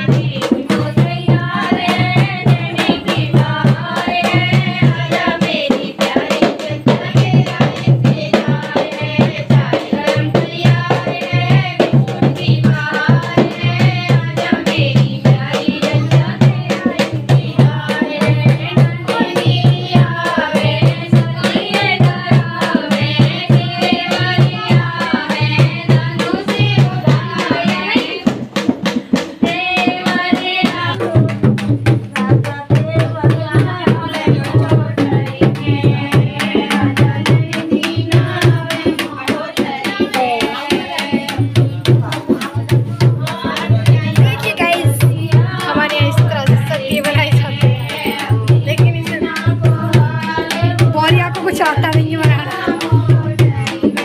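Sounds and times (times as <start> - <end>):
hand drum beat: 0.0 - 54.0
women singing together: 0.0 - 54.0.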